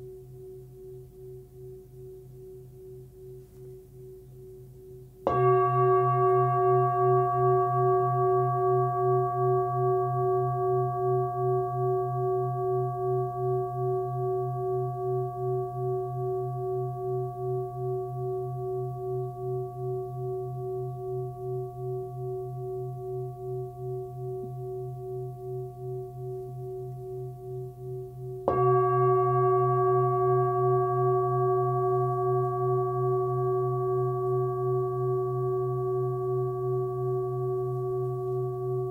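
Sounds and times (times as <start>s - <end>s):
singing bowl ringing: 0.0s - 38.9s.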